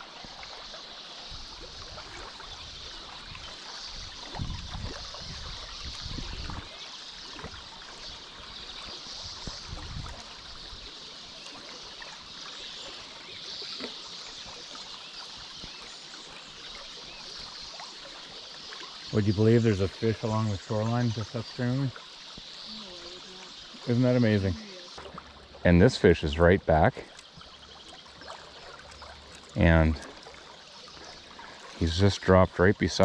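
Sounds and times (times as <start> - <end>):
stream running over gravel: 0.0 - 33.0.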